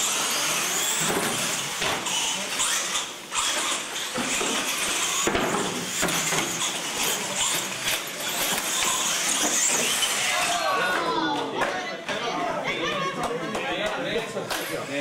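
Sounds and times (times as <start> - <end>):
toy trucks motors whirring: 0.0 - 13.0, 14.2 - 15.0.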